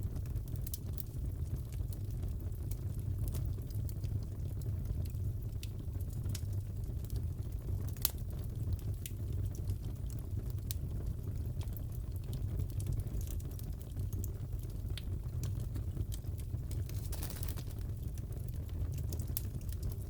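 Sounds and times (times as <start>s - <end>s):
fire popping and snapping: 0.0s - 20.0s
fire rumbling: 0.0s - 20.0s.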